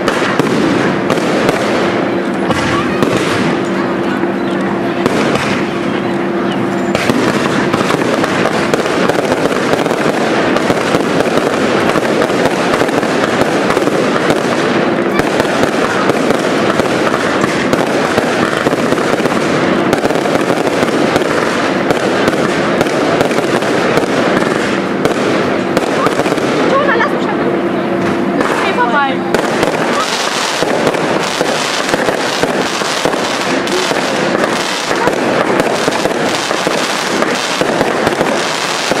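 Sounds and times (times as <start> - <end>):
fireworks barrage: 0.0 - 39.0.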